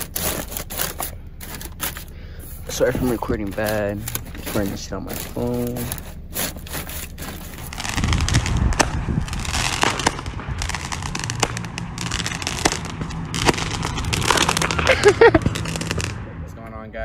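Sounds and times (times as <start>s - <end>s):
firework crackling and popping: 0.0s - 1.9s, 2.5s - 16.2s.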